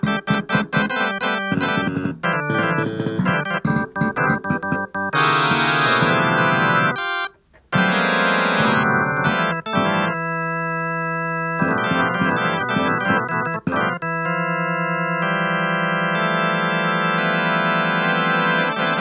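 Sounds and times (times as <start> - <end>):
electronic keyboard chords: 0.0 - 19.0.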